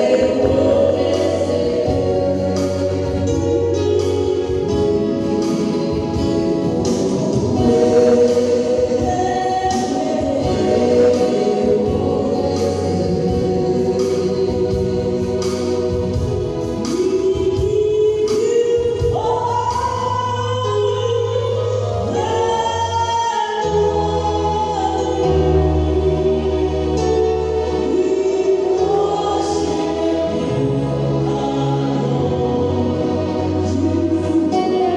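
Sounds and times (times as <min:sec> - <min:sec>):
choir singing gospel song: 0:00.0 - 0:34.9
instrumental accompaniment: 0:00.0 - 0:34.9.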